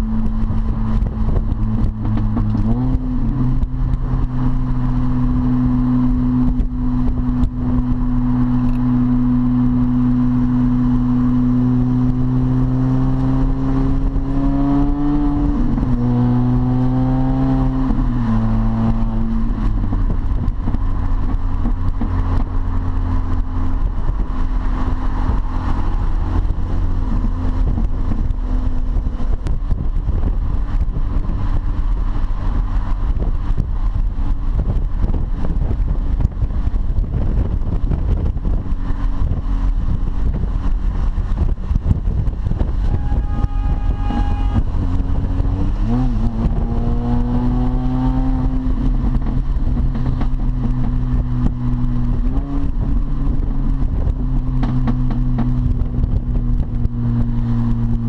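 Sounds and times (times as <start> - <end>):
car engine droning: 0.0 - 58.0
road noise: 0.0 - 58.0
supercharger whine: 0.0 - 58.0.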